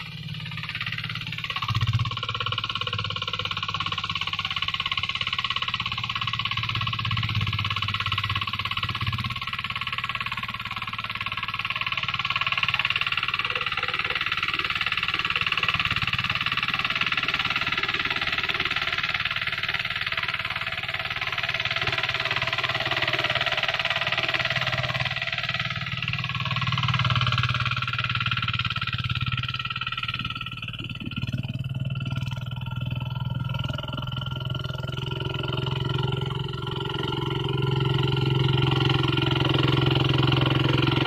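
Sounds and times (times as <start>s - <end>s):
diesel engine drone: 0.0s - 41.0s.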